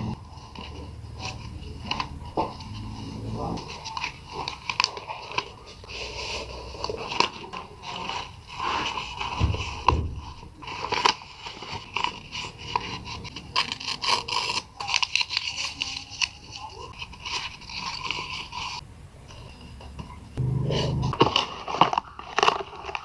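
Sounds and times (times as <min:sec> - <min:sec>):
paper scraping and rustling: 0:00.0 - 0:18.8, 0:20.7 - 0:23.0.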